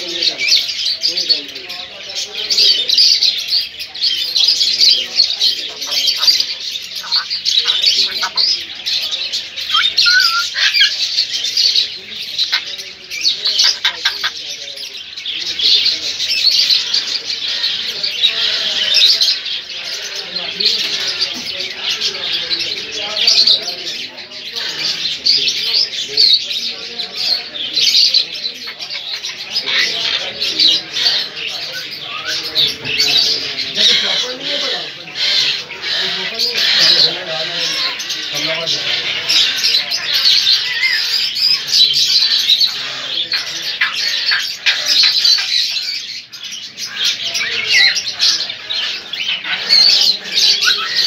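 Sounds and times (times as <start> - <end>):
caged birds chirping and squawking: 0.0 - 51.0.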